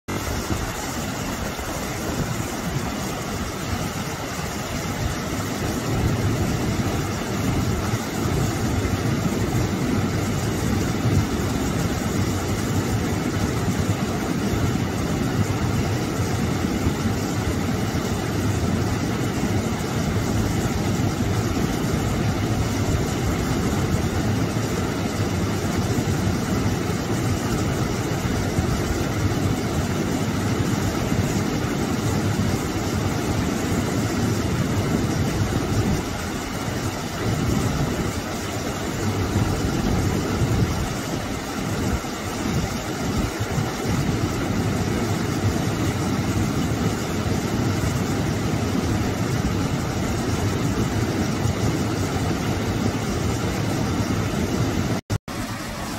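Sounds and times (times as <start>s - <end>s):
waterfall rushing and splashing: 0.1s - 55.9s.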